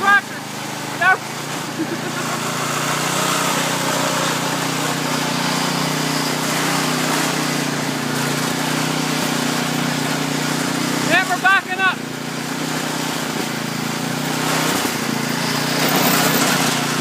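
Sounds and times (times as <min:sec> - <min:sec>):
lawn tractor engine under load: 0:00.0 - 0:17.0.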